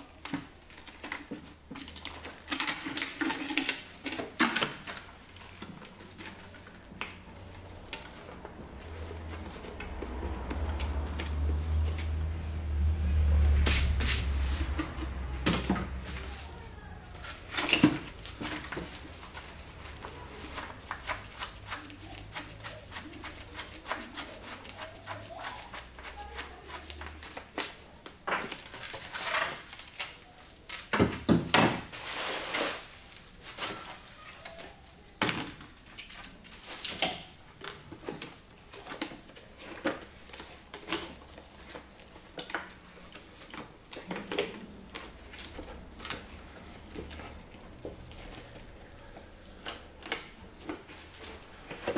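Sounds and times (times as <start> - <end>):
rustling: 0.0 - 30.9, 31.8 - 51.9.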